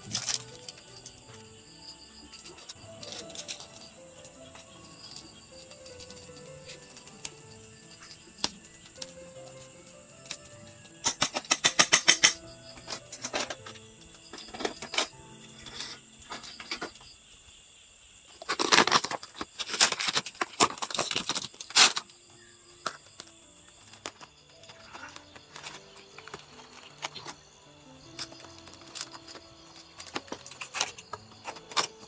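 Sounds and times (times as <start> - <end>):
aluminium foil crinkling: 0.0 - 1.5, 2.3 - 17.0, 18.3 - 22.2, 22.8 - 32.0
soft background music: 0.0 - 17.8, 20.9 - 32.0.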